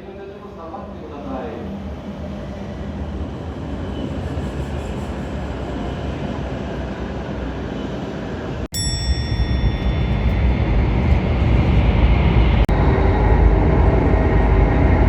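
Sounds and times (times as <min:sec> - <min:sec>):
train rumbling: 0:00.1 - 0:15.0.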